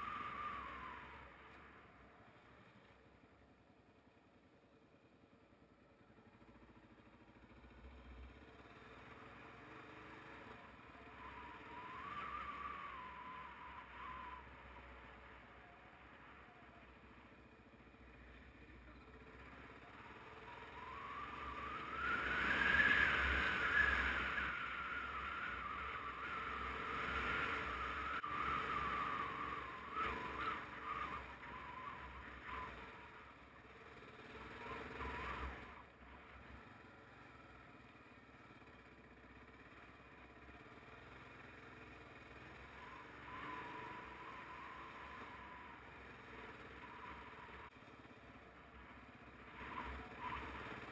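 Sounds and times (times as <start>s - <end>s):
motorcycle engine whining: 0.0s - 50.9s.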